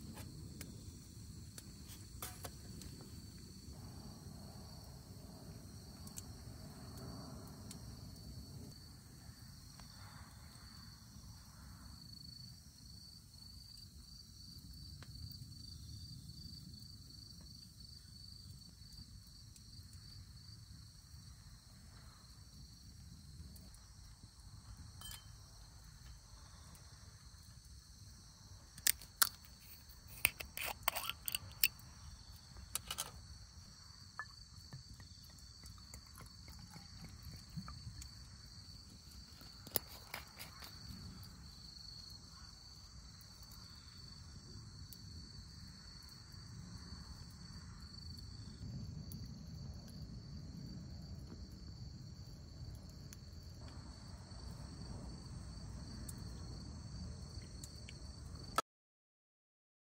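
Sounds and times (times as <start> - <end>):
insects trilling: 0.0 - 58.5.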